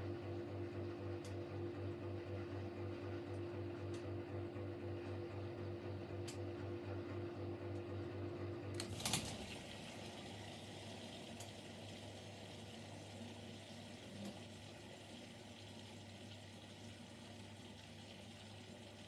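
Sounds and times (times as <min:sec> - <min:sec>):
washing machine pulsing hum: 0:00.0 - 0:19.0.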